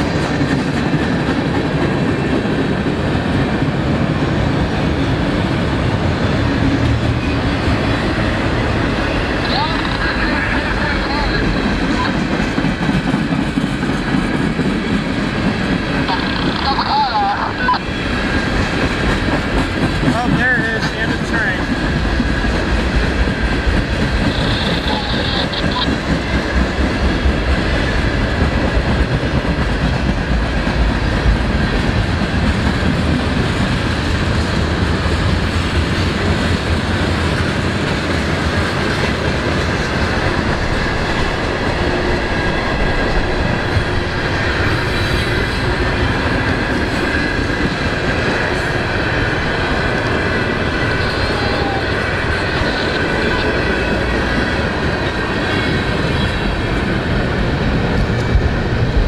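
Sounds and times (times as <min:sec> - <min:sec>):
train cars rolling past: 0:00.0 - 0:59.0.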